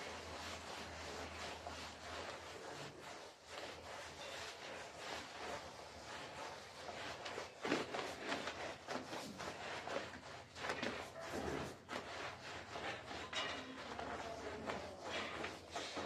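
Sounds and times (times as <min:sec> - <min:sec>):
broom scrubbing wet rug: 0:00.0 - 0:16.0.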